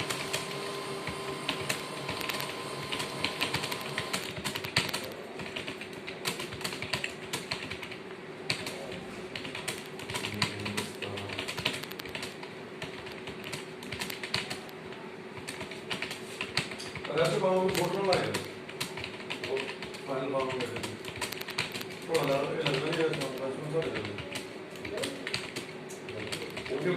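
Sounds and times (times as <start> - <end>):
faint hum: 0.0 - 26.9
fast keyboard typing: 0.0 - 26.9.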